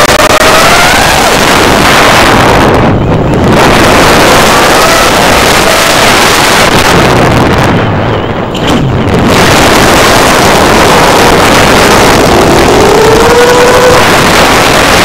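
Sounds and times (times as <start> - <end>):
drone propellers hissing rush: 0.0 - 15.0.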